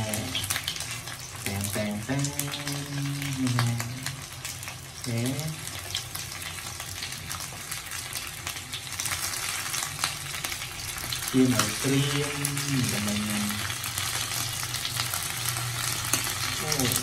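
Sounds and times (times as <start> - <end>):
rice cake sizzling in oil: 0.0 - 17.0.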